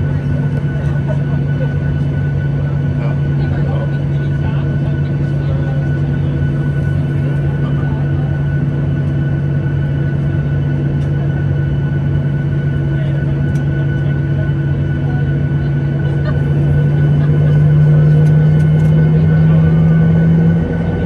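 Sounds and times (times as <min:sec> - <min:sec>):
jet engines humming in cabin: 0:00.0 - 0:21.0.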